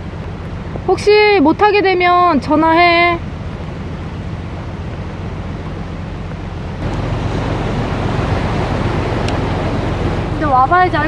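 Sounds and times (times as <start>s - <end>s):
sea waves on rocky shore: 0.0s - 11.0s
wind rumbling on microphone: 0.0s - 11.0s.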